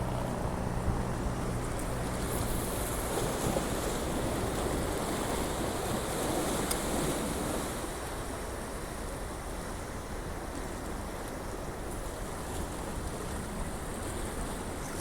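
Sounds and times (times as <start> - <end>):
sea waves rushing: 0.0 - 15.0
wind: 0.0 - 15.0.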